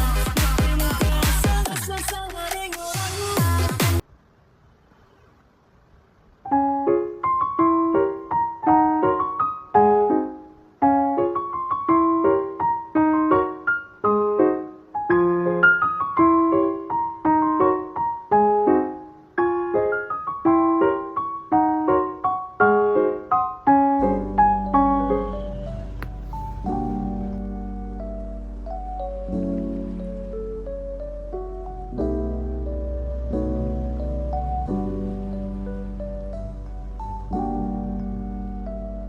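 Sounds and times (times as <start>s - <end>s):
piano melody: 6.4s - 39.0s.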